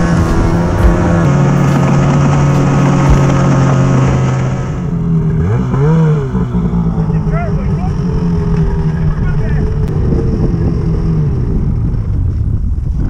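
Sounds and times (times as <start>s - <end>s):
snowmobile engine running: 0.0s - 13.0s.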